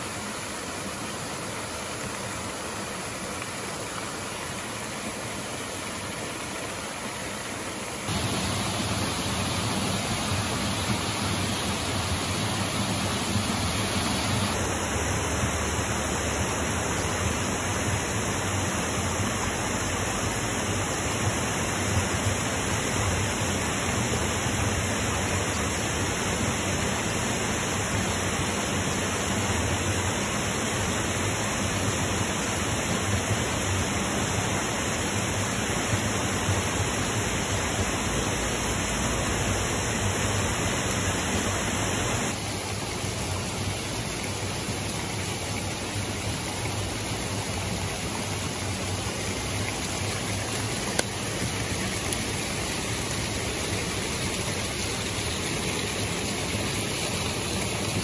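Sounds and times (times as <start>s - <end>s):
stream water over stone ledges: 0.0s - 58.0s.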